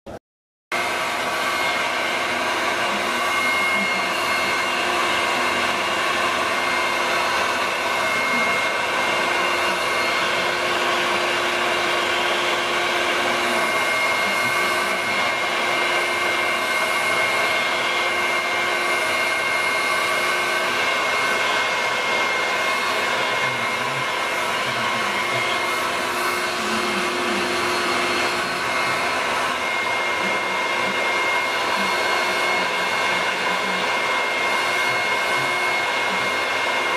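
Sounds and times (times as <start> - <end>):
vacuum cleaner running: 0.7 - 36.9.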